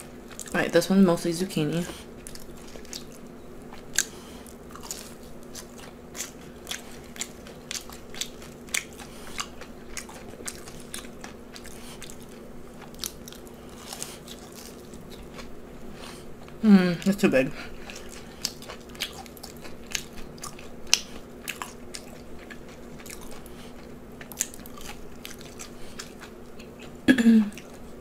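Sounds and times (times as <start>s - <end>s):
crunching and chewing food: 0.0s - 0.7s, 1.8s - 28.0s.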